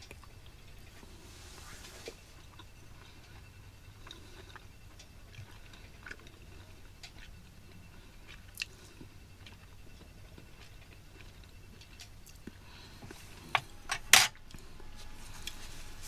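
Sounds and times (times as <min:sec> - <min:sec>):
close-up chewing: 0:01.8 - 0:16.0.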